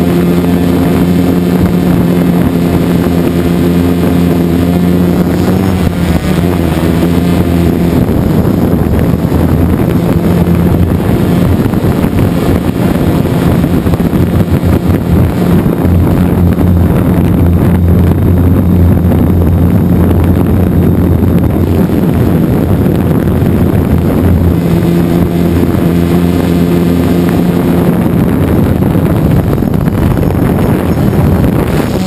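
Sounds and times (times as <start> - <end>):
drone propellers whirring: 0.0 - 32.0
wind on microphone: 0.0 - 32.0.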